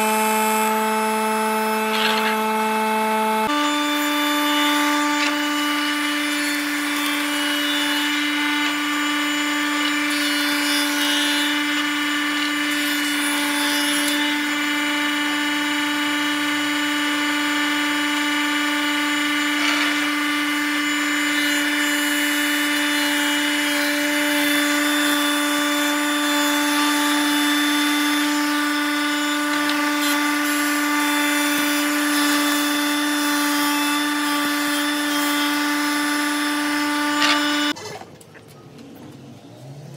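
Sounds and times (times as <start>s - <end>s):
wood shaper whining: 0.0s - 38.1s.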